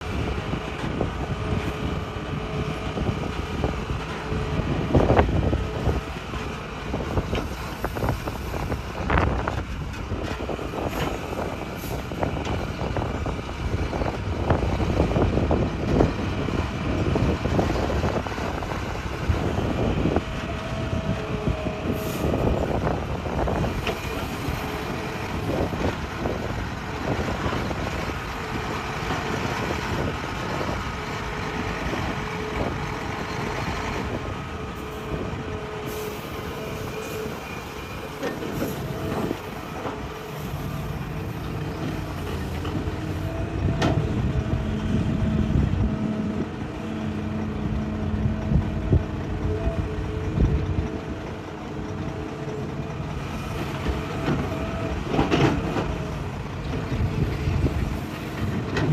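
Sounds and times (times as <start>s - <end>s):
excavator engine drone: 0.0s - 58.9s.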